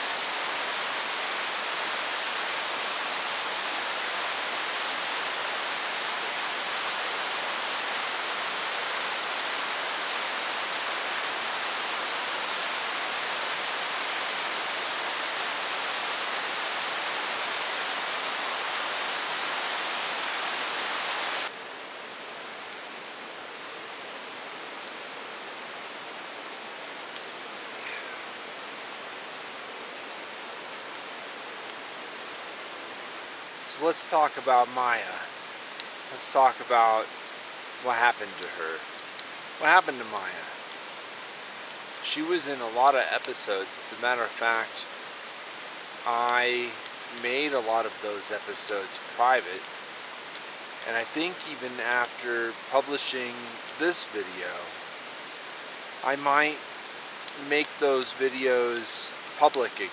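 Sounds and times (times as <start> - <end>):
rushing hiss of water: 0.0 - 59.9.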